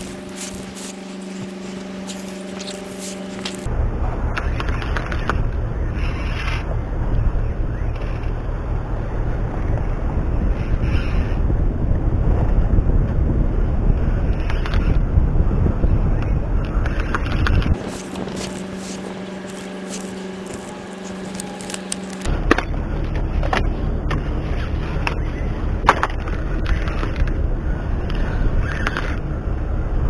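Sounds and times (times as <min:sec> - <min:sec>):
steady buzzing tone: 0:00.0 - 0:30.0
wind buffeting microphone: 0:00.0 - 0:30.0.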